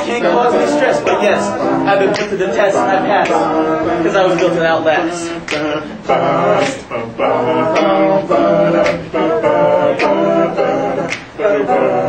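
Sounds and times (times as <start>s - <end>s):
male group singing a cappella: 0.0s - 12.0s.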